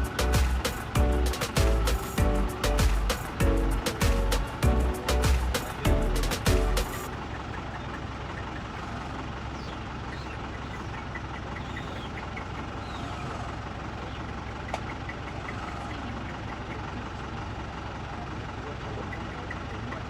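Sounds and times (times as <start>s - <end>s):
faint high chirps: 0.0s - 17.2s, 18.8s - 20.0s
vehicle engine humming: 0.0s - 20.0s.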